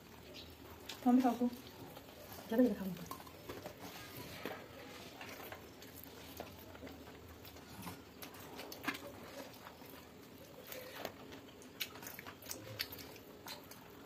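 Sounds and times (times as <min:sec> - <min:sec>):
soft chewing and mouth noises: 0:00.0 - 0:14.0.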